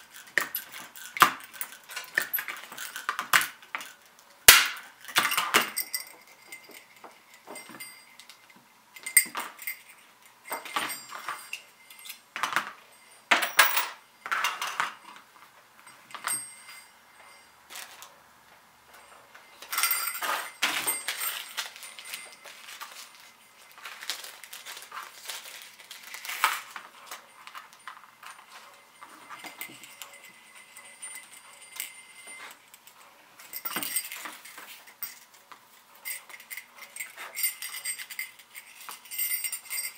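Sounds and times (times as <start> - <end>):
jingle bells jingling: 0.0 - 4.1, 4.8 - 15.2, 15.8 - 18.1, 18.9 - 39.9.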